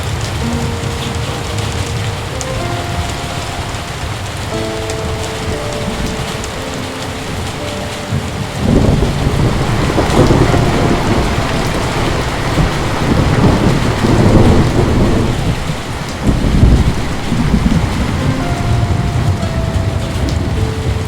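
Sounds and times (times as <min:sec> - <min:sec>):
heavy rain pouring: 0:00.0 - 0:21.0
deep rumble: 0:00.2 - 0:21.0.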